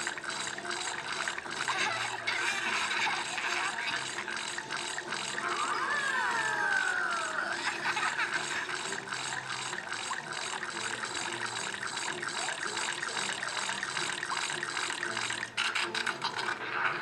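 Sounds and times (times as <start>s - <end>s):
running splashing water: 0.0s - 17.0s.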